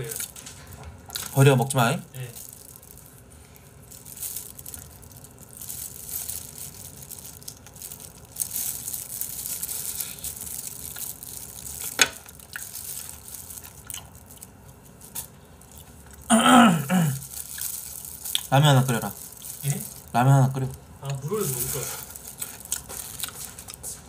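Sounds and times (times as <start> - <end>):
crunching and chewing fried chicken: 0.0 - 16.3, 16.9 - 24.0.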